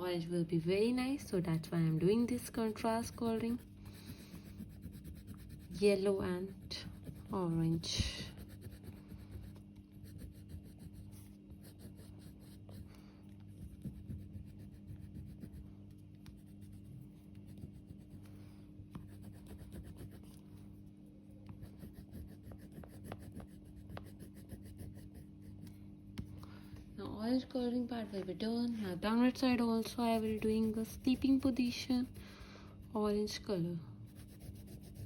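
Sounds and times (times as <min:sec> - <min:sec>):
steady low hum: 0:00.0 - 0:35.0
scratchy strokes on paper: 0:00.6 - 0:25.8, 0:28.7 - 0:33.5, 0:34.1 - 0:35.0.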